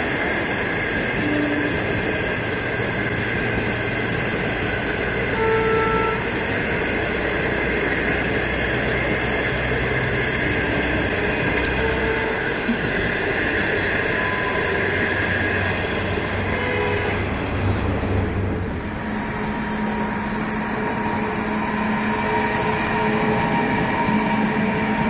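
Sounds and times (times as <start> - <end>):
locomotive low hum: 0.0 - 25.0
train wheels on track: 0.0 - 25.0.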